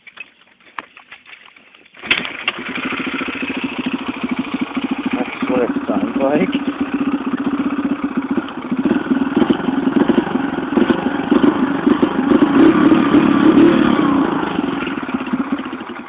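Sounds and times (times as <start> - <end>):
dirt bike engine running: 2.0 - 16.0.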